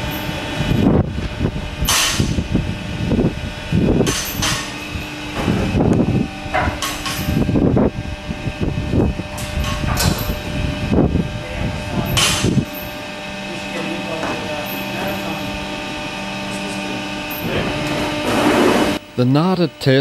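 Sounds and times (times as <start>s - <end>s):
steady machinery hum: 0.0s - 20.0s.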